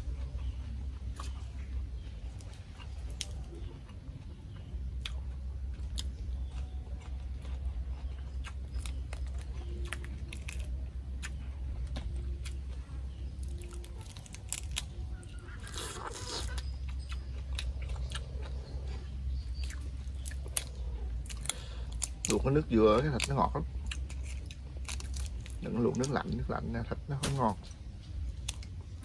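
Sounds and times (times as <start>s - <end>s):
steady low hum: 0.0s - 29.0s
wet chewing clicks: 0.2s - 26.6s.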